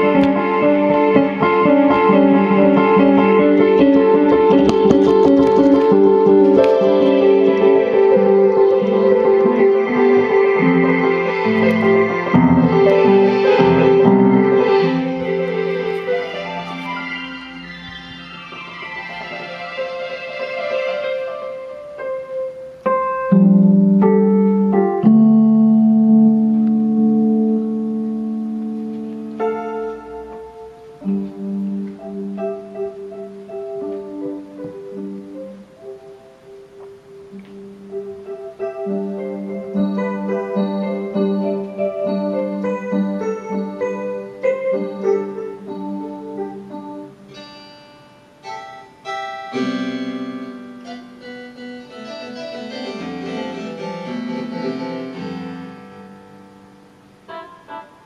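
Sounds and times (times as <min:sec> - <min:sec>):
electronic keyboard chords: 0:00.0 - 0:58.0.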